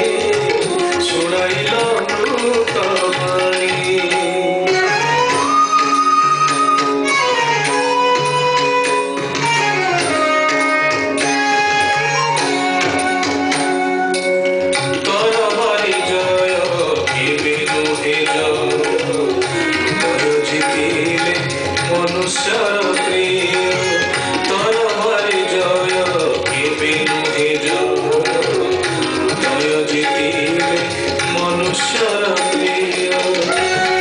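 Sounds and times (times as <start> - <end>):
hand drum rhythm: 0.0 - 34.0.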